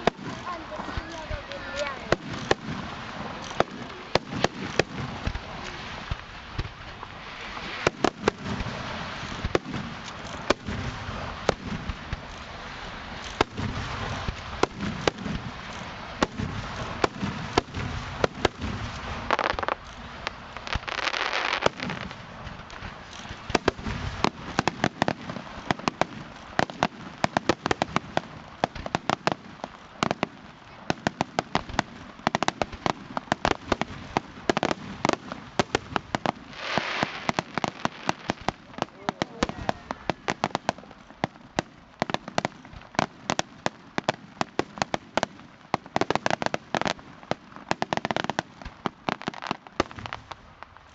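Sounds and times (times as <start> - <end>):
fireworks bangs: 0.0 - 50.9
fireworks crackling hiss: 0.0 - 50.9.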